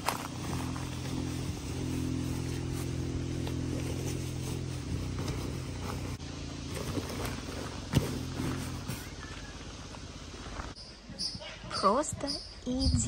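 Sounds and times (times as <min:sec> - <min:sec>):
motor humming: 0:00.0 - 0:10.8.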